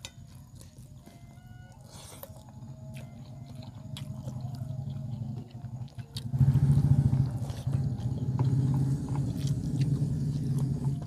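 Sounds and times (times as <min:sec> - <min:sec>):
engine running low drone: 0:00.9 - 0:11.0.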